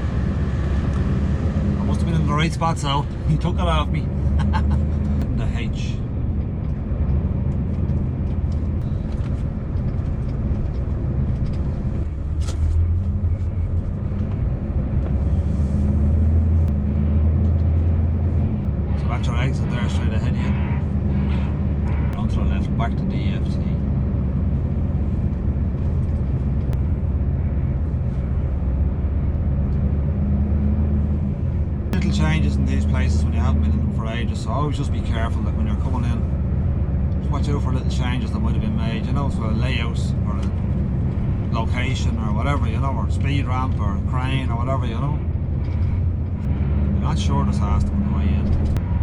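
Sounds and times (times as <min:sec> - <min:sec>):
truck engine droning: 0:00.0 - 0:49.0.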